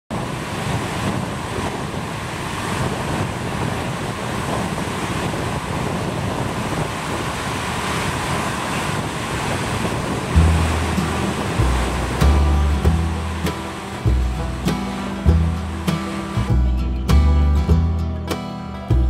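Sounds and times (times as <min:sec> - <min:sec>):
water rushing over rocks: 0:00.1 - 0:18.0.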